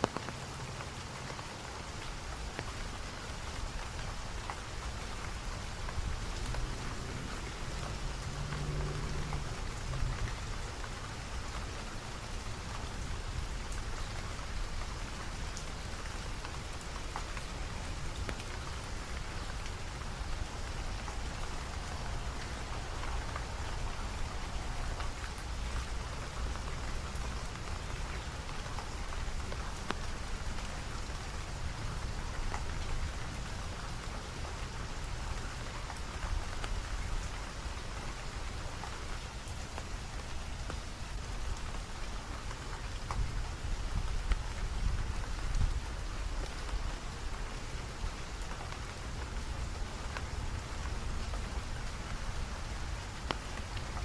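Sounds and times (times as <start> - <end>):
rain drops ticking: 0.0 - 54.0.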